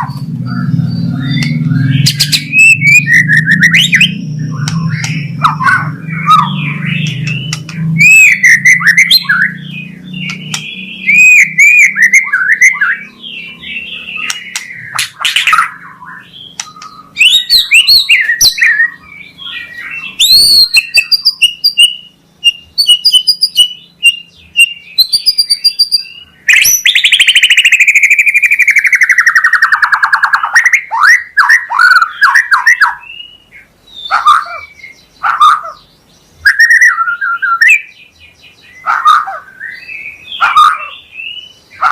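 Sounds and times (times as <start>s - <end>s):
bird singing whistled phrases: 0.5s - 35.0s, 36.4s - 38.0s, 38.6s - 41.9s.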